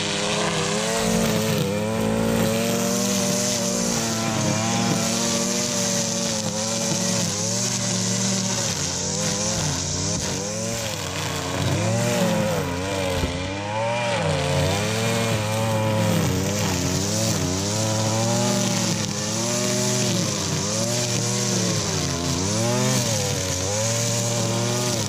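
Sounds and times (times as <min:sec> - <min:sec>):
string trimmer cutting grass: 0:00.0 - 0:25.0.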